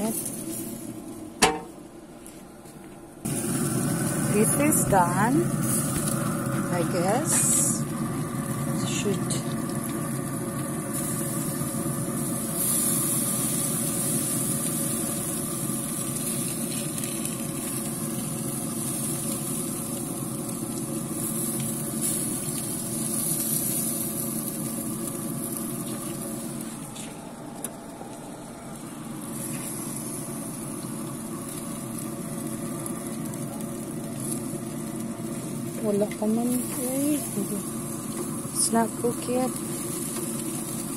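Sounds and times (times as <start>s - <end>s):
grill fan humming: 0.0s - 40.9s
steaks sizzling on a grill: 3.3s - 26.8s, 29.3s - 40.9s.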